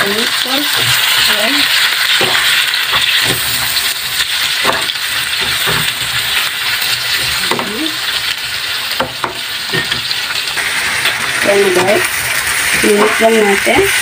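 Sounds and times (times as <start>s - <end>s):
vegetables sizzling in a frying pan: 0.0s - 14.0s
spatula scraping and knocking pan: 2.0s - 8.3s, 8.9s - 14.0s.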